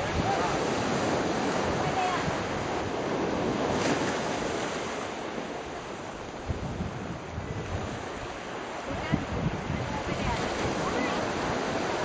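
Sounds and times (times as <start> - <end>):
surf on a sandy beach: 0.0 - 12.0
wind buffeting microphone: 0.0 - 12.0.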